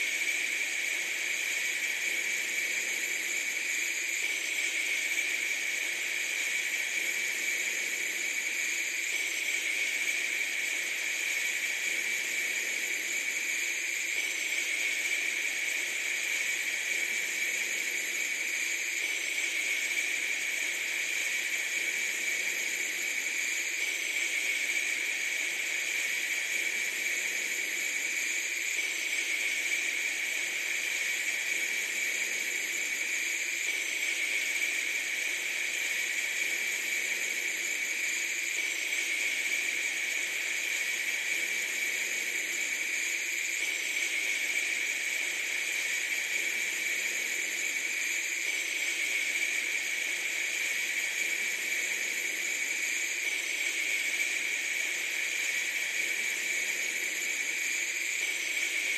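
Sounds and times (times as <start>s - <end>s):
steady high hiss: 0.0s - 58.9s.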